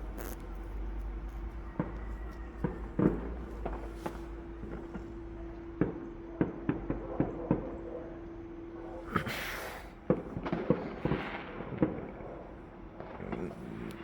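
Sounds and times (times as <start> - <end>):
distant fireworks pops and bangs: 0.0 - 8.5, 10.1 - 14.0.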